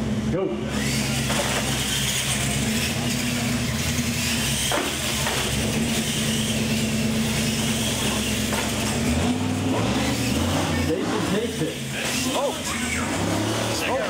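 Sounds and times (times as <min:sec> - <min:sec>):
toy truck motors whining: 0:00.7 - 0:14.0.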